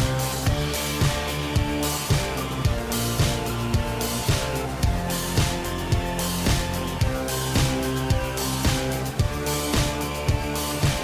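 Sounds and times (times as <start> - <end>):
music with steady beat: 0.0 - 11.0
sustained pitched notes: 0.0 - 11.0.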